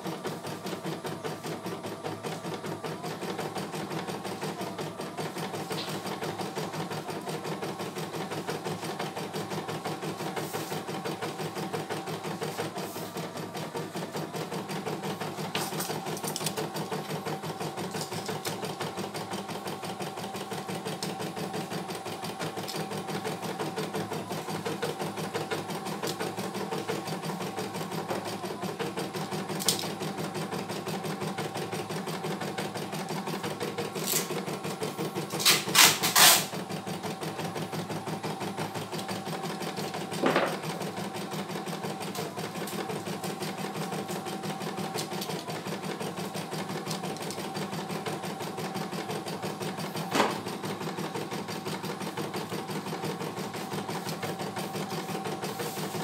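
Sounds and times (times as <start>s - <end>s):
embroidery machine stitching: 0.0s - 56.0s.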